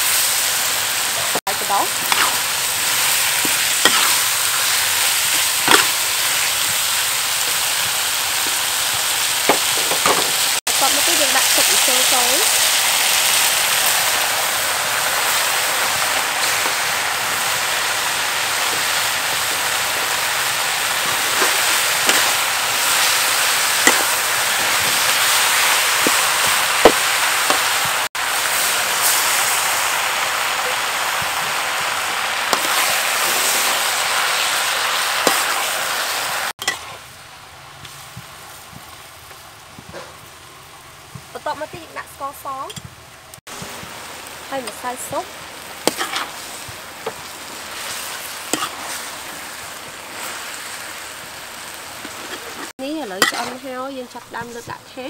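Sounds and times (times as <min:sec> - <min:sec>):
vegetables sizzling in a wok: 0:00.0 - 0:55.0.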